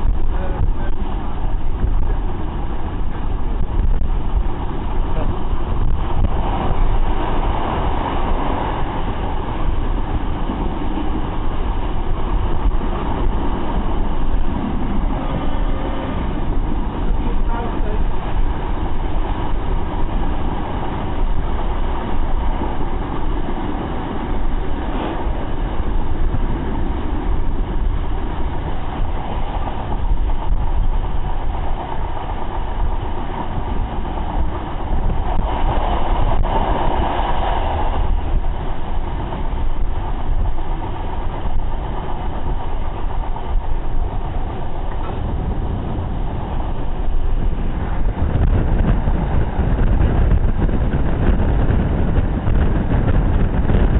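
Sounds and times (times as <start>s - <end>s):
train wheels rumbling on rail: 0.0s - 53.9s
wind rush: 0.0s - 53.9s.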